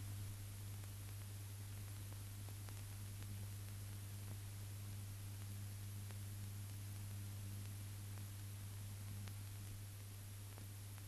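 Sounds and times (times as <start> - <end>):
faint clicks: 0.8 - 11.0.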